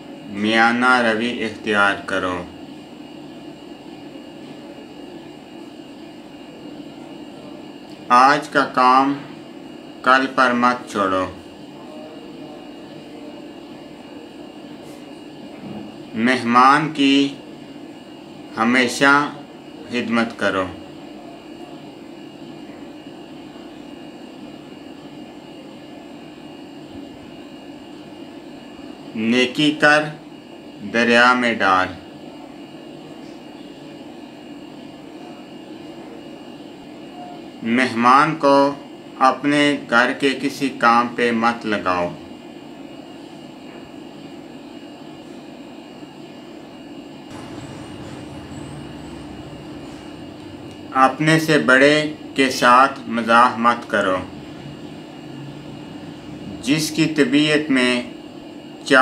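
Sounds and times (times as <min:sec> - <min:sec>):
faint high whine: 0:00.0 - 0:59.0
mechanical room hum: 0:00.0 - 0:59.0.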